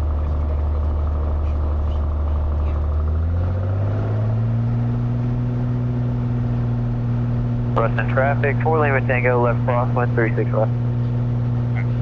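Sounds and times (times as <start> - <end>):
airplane engine and propeller: 0.0 - 12.0.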